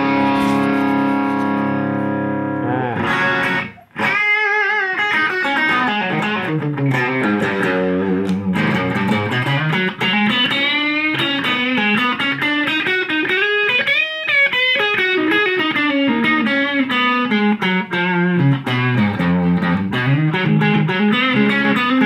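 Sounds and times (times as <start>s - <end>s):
overdriven electric guitar: 0.0s - 22.0s.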